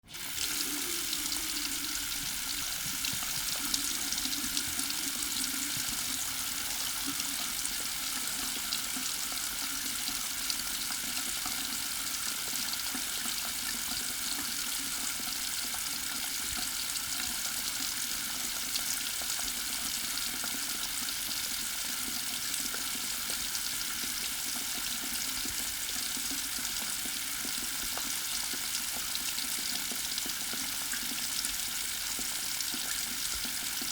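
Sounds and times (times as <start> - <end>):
faucet water pouring into sink: 0.0 - 33.9.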